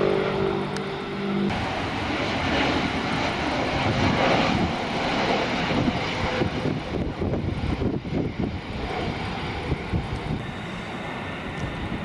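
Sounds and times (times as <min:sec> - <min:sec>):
airliner jet engines roaring: 0:00.0 - 0:12.0.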